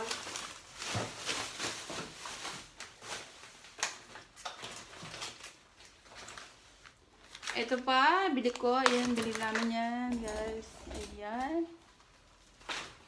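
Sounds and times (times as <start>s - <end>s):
packages rustling: 0.0s - 13.0s.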